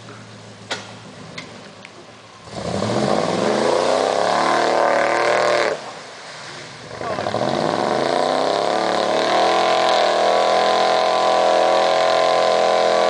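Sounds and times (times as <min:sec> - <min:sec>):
truck engine revving: 0:02.4 - 0:13.0.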